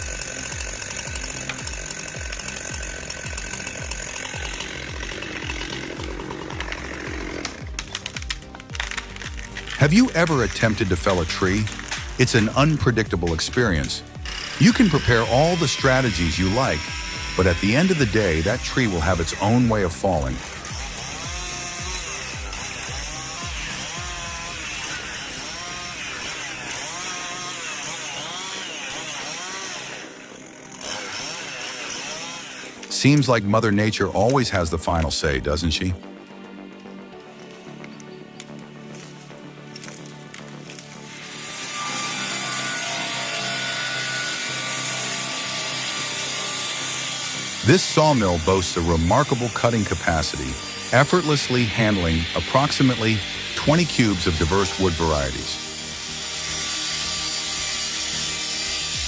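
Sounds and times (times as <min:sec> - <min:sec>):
background music with steady beat: 0:00.0 - 0:28.6, 0:32.8 - 0:59.0
chainsaw running: 0:00.0 - 0:59.0.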